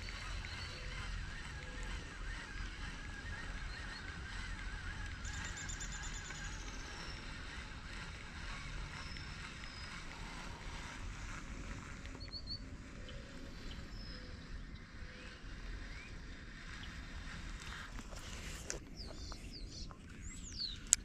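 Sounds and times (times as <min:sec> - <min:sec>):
distant bird calls: 0:00.0 - 0:21.0
high bird trill: 0:00.0 - 0:21.0.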